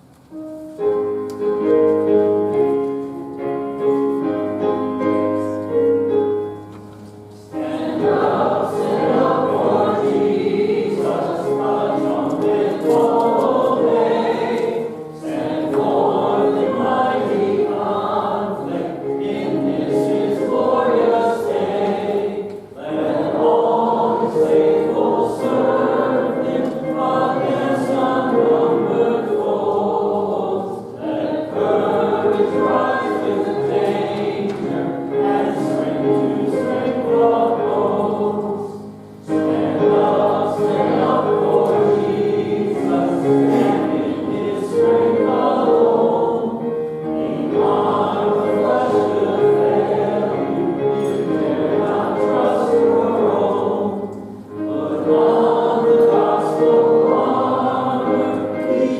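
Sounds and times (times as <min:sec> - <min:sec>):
congregation singing a hymn: 0:00.0 - 0:58.9.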